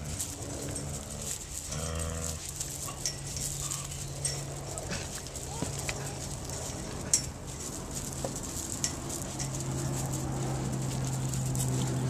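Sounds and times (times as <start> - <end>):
paws scrabbling on gravel: 0.0 - 12.0
steady low hum: 0.0 - 12.0.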